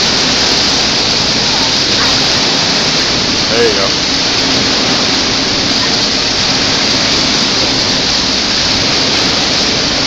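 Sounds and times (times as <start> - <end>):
waves churning and breaking: 0.0 - 10.0.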